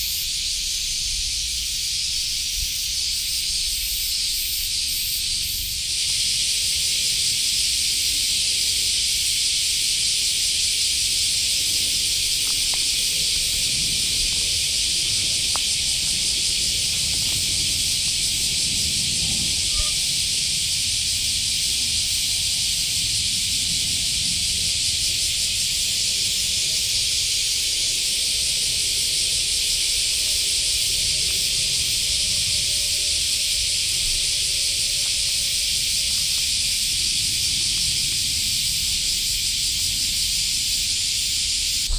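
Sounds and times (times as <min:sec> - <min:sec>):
insect chorus: 0:00.0 - 0:41.9.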